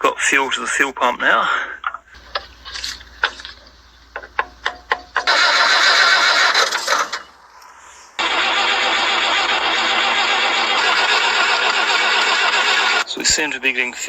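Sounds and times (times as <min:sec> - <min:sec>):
diesel engine cranking: 0:02.0 - 0:07.6, 0:08.2 - 0:14.0.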